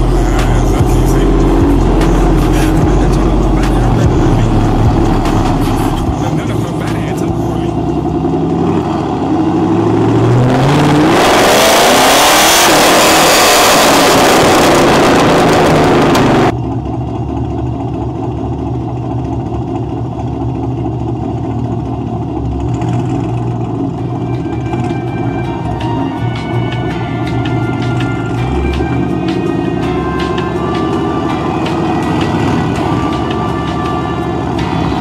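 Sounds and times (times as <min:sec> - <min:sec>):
engine drone inside moving car: 0:00.0 - 0:35.0.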